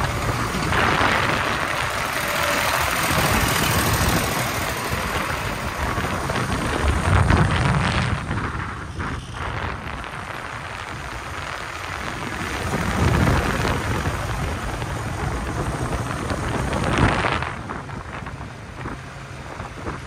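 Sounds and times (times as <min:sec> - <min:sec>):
diesel tractor engines passing: 0:00.0 - 0:20.0
wind noise on microphone: 0:00.0 - 0:20.0.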